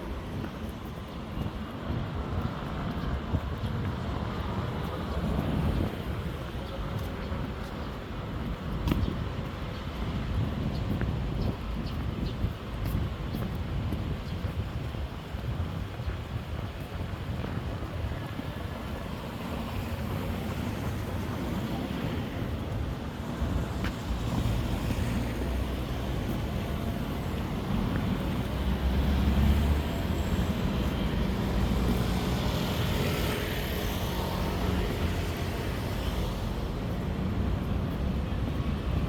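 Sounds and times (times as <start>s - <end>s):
street traffic rumble: 0.0s - 39.0s.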